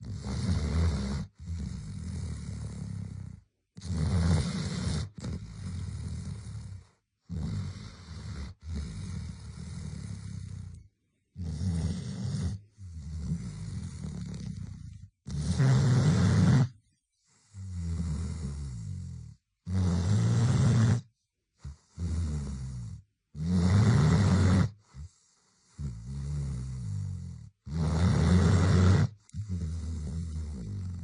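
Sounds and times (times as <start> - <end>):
dog snoring: 0.0 - 31.0.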